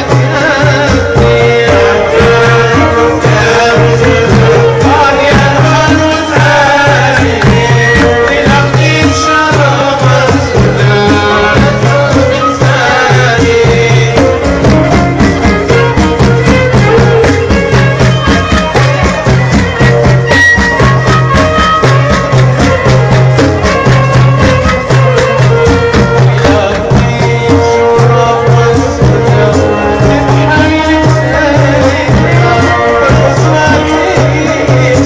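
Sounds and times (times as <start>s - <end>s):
frame drums beating: 0.0s - 35.0s
oud melody: 0.0s - 35.0s.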